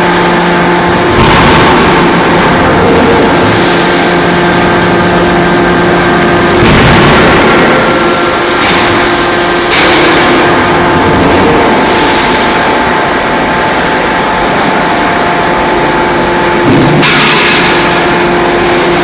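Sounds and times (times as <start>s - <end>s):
machinery hiss and hum: 0.0s - 19.0s.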